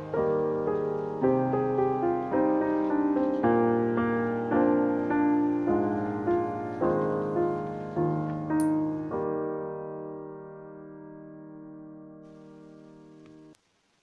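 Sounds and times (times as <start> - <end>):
gentle piano music: 0.0 - 13.6.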